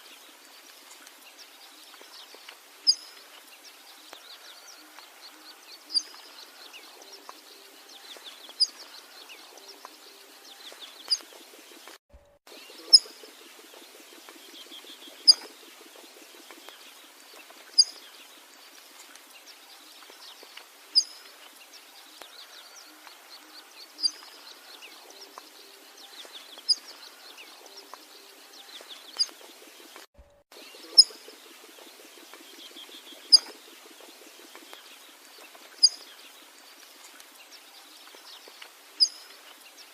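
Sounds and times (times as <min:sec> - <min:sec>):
faint birds: 0:00.0 - 0:39.9
insects: 0:00.0 - 0:39.9.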